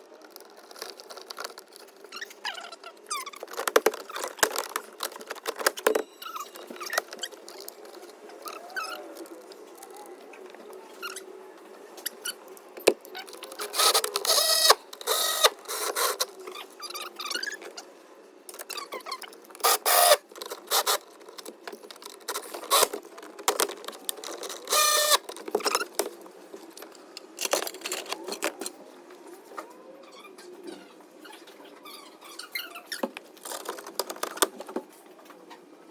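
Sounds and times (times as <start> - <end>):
plastic parts squeaking and scraping: 0.0 - 35.7.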